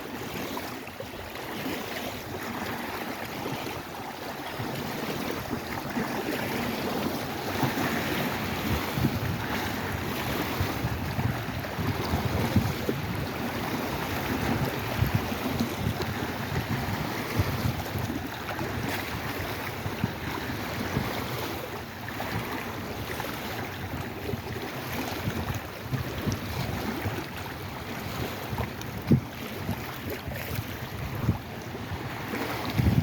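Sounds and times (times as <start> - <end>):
water lapping: 0.0 - 33.0
wind buffeting microphone: 4.5 - 33.0.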